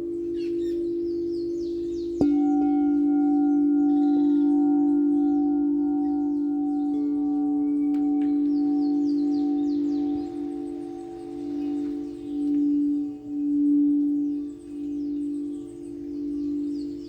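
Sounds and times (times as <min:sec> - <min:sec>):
singing bowls ringing: 0:00.0 - 0:17.0.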